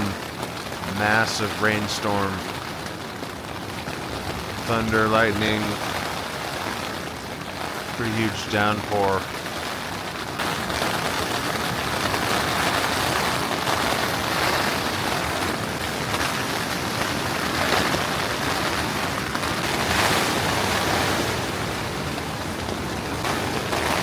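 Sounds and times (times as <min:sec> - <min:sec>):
heavy rain on a canvas tent: 0:00.0 - 0:24.0
wind: 0:00.0 - 0:24.0.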